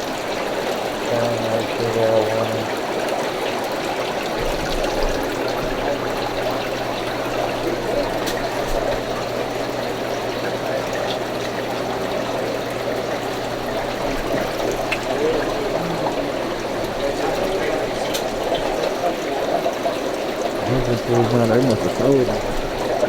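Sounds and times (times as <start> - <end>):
water trickling through aquarium filter: 0.0 - 23.0.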